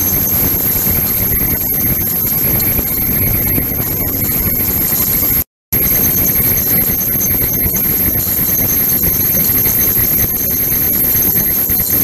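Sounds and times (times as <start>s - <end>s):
high-pitched whines: 0.0s - 12.0s.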